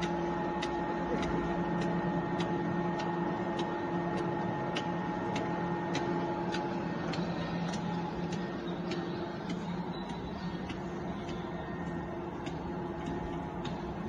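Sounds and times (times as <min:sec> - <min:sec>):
light regular clicks: 0:00.0 - 0:14.0
machine motor hum: 0:00.0 - 0:14.0.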